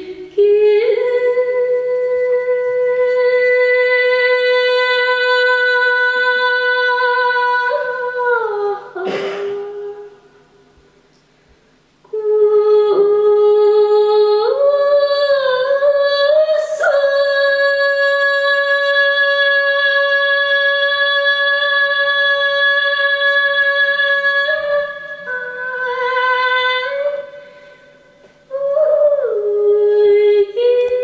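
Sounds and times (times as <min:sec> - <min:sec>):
woman singing unaccompanied: 0:00.0 - 0:10.4, 0:12.1 - 0:31.0.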